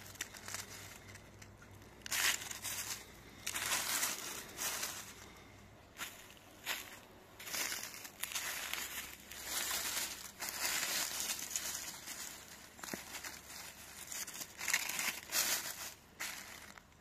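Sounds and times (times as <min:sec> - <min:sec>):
dry leaves crackling and rustling: 0:00.0 - 0:17.0.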